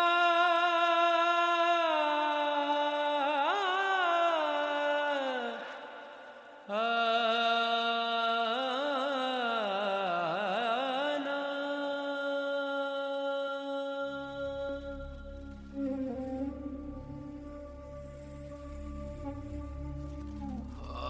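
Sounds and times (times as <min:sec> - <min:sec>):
wordless chanted voice: 0:00.0 - 0:21.0.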